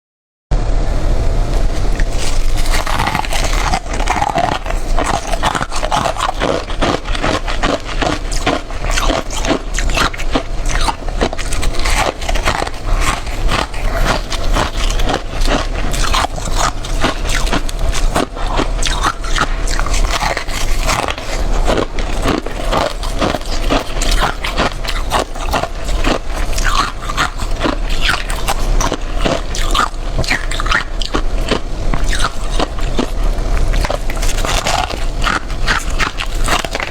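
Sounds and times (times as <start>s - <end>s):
frost being chewed: 0.9s - 36.9s.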